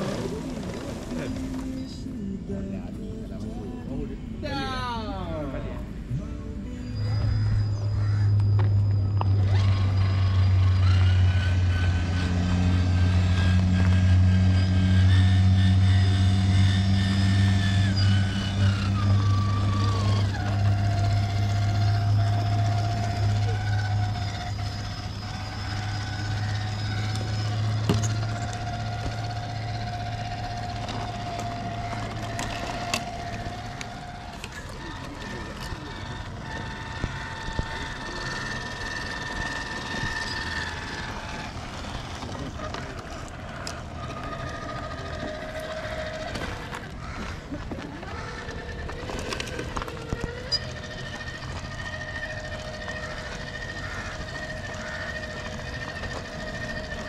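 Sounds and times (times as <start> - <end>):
low steady hum: 0.0 - 57.0
toy truck motor whining: 6.7 - 57.0.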